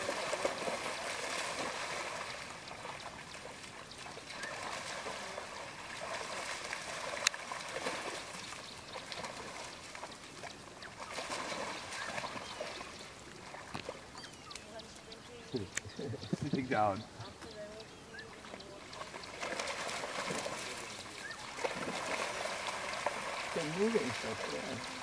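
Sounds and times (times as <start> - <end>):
splashing in water: 0.0 - 15.7, 18.1 - 25.0.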